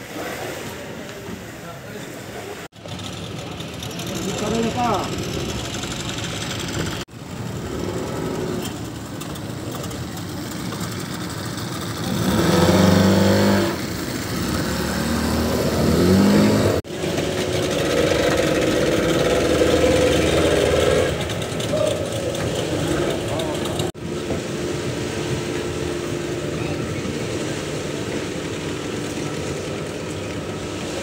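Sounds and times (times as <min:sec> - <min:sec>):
outboard motors running: 0:00.0 - 0:31.0.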